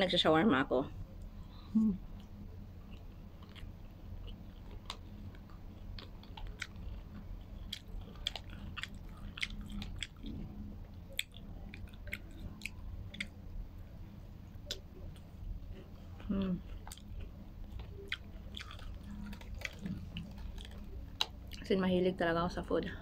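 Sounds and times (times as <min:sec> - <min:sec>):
steady low hum: 0:00.0 - 0:23.0
person chewing food: 0:01.2 - 0:13.6, 0:14.4 - 0:21.6.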